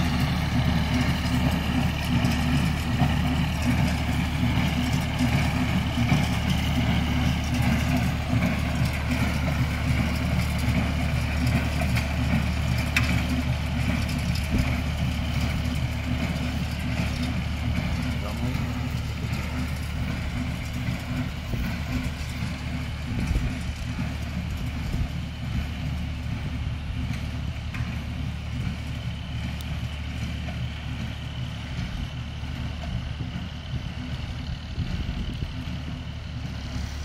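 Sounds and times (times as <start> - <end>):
hay baler working: 0.0 - 37.0
tractor engine running: 0.0 - 37.0.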